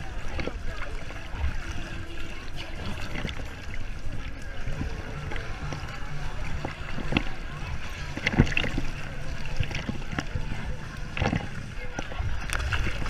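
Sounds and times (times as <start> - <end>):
small splashes: 0.0 - 13.0
water rumbling against microphone: 0.0 - 13.0
water sloshing and lapping: 0.0 - 13.0.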